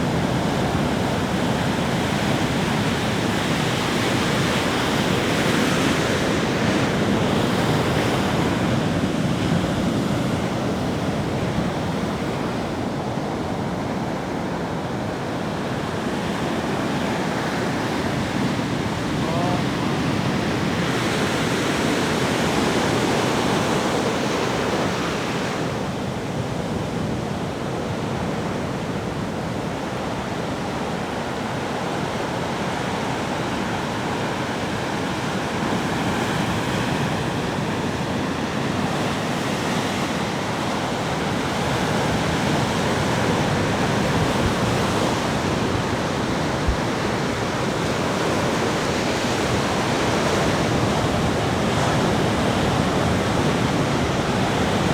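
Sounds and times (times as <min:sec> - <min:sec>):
sea waves breaking on beach: 0:00.0 - 0:54.9.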